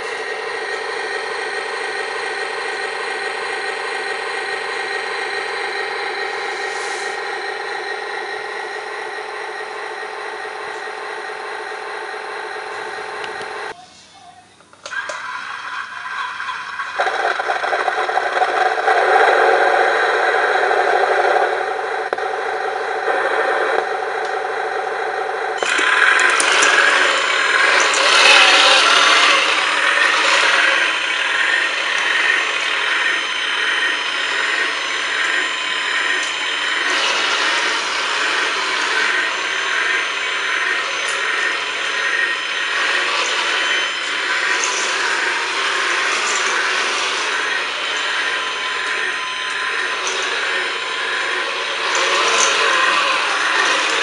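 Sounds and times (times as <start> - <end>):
electric motors whining: 0.0 - 13.8, 14.6 - 54.0.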